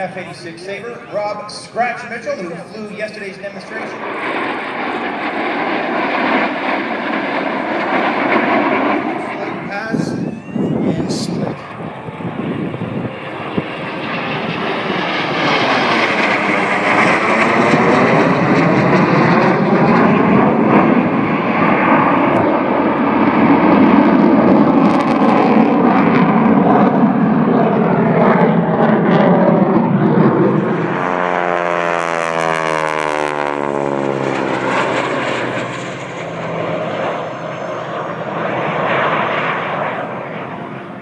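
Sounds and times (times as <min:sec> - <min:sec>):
jet aircraft roar: 0:00.0 - 0:41.0.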